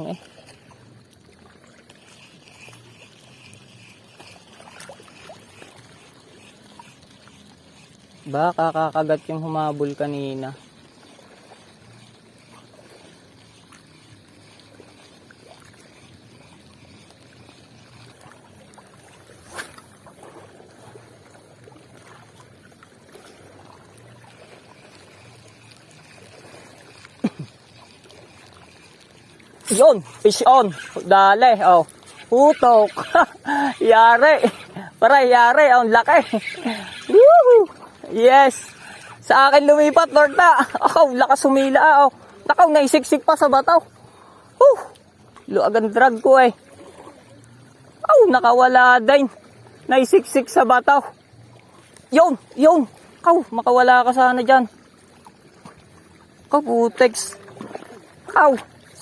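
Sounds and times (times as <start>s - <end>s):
small waves lapping on rocks: 0.0s - 59.0s.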